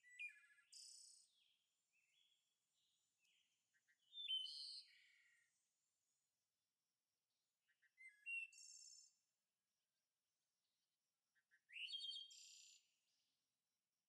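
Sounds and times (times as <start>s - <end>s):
faint songbird song: 0.0s - 13.9s.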